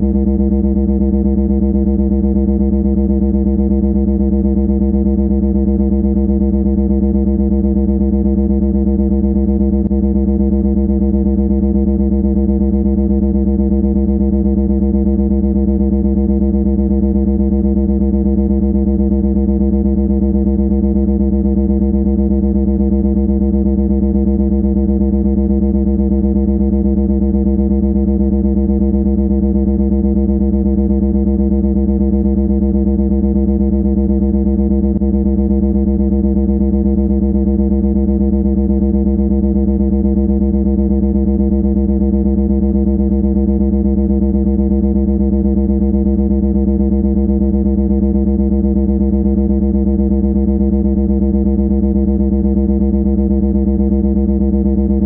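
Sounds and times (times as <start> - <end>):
low droning buzz with rattle: 0.0 - 55.0.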